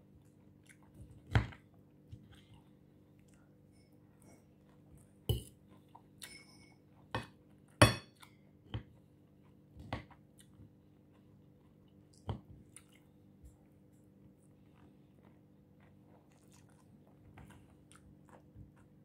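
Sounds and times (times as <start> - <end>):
quiet chewing: 0.0 - 19.0.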